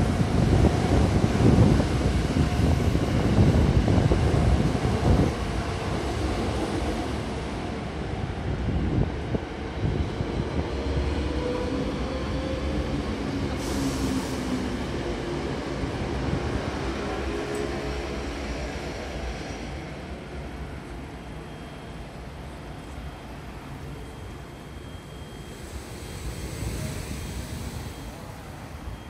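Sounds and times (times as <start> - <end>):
electric train rumbling past: 0.0 - 29.0.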